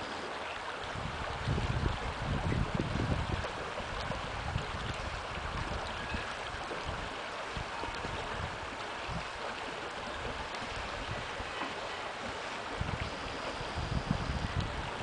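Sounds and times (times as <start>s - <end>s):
wind buffeting microphone: 0.8s - 11.6s, 12.2s - 15.0s.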